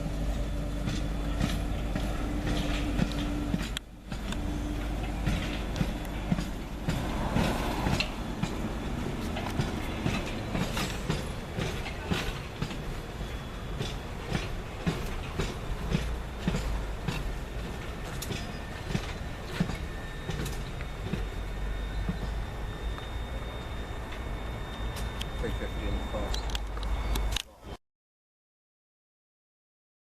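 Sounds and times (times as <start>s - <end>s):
train wheels clattering: 0.0s - 27.3s
train rumble: 0.0s - 27.4s.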